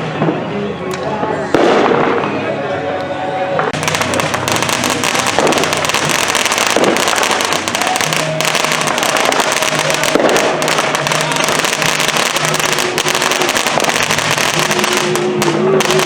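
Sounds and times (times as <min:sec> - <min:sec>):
fireworks crackling and popping: 0:01.5 - 0:02.5, 0:03.6 - 0:16.0.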